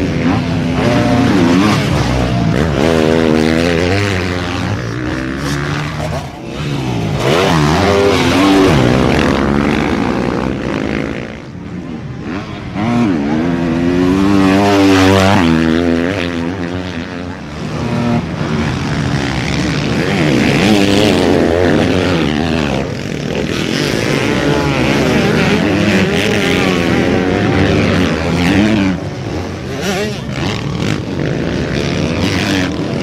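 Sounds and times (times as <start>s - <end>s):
dirt bike engines revving: 0.0s - 33.0s.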